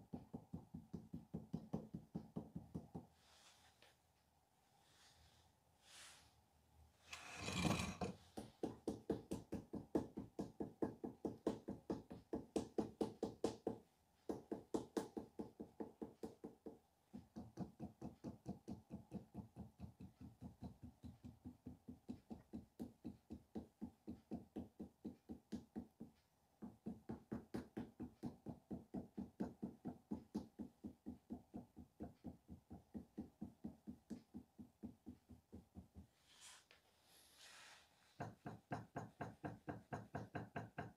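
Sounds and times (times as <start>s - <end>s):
sculpting tool tapping clay: 0.0s - 3.2s, 7.4s - 36.8s, 38.0s - 40.9s.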